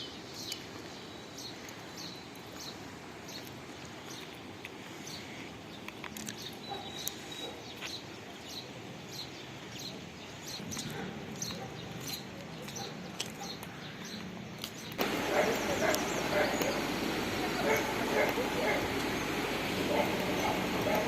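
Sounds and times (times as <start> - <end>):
rushing water: 0.0 - 13.7, 14.3 - 21.0
small birds chirping: 0.0 - 21.0.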